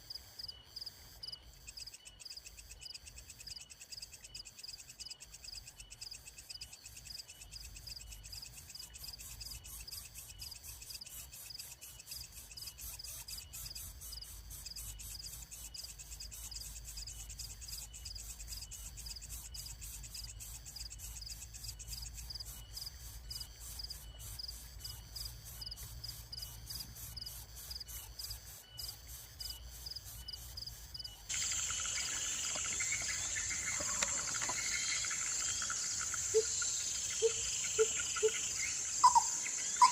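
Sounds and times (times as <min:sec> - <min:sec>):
insects chirping chorus: 0:00.0 - 0:39.9
buzzing insect chorus: 0:00.4 - 0:39.9.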